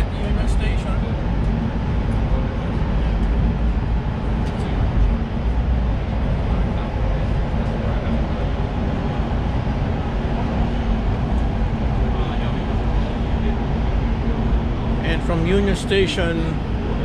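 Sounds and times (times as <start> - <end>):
rail car rumbling: 0.0 - 17.0.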